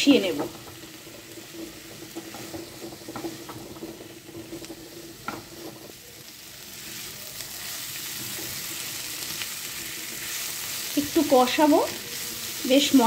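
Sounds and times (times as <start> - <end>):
food sizzling in oil: 0.0 - 13.0
spatula stirring and scraping: 0.1 - 13.0.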